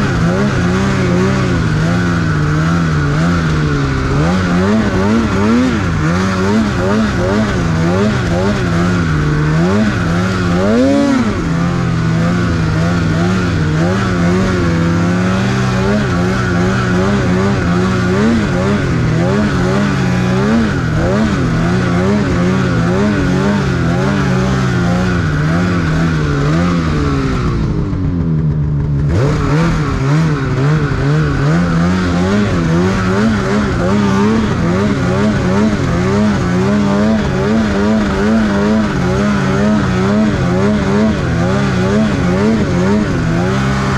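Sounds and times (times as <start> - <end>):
snowmobile engine revving: 0.0 - 43.9.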